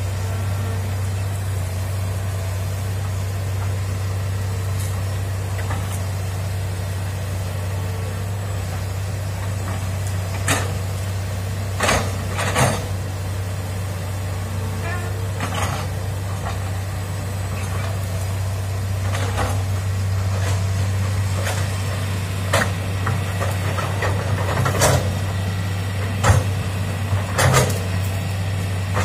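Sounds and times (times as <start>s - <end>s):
excavator diesel engine droning: 0.0s - 29.0s.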